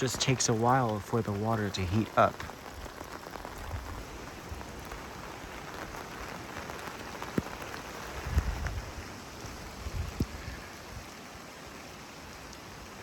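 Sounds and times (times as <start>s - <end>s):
heavy rain drops falling: 0.0s - 13.0s.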